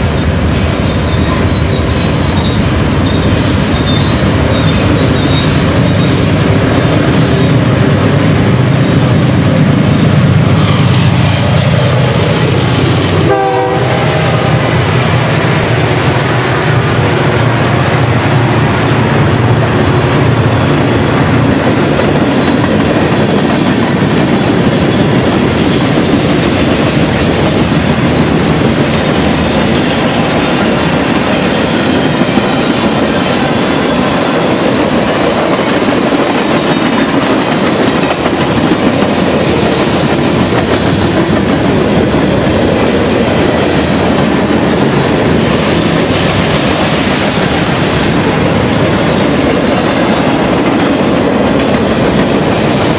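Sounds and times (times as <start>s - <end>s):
freight train wheels rumbling: 0.0s - 52.9s.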